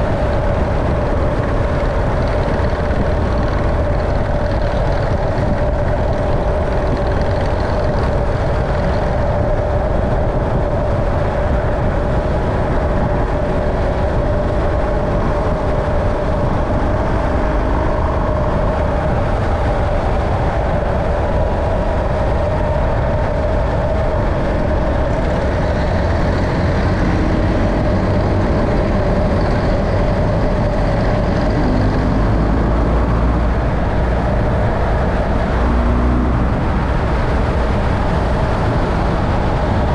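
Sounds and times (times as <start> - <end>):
road vehicle running rumble: 0.0 - 39.9.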